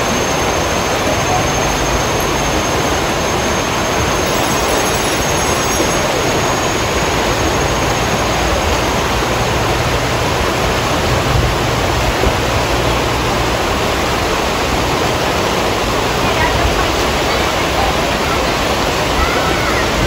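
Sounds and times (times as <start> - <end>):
river rapids rushing over rocks: 0.0 - 20.0.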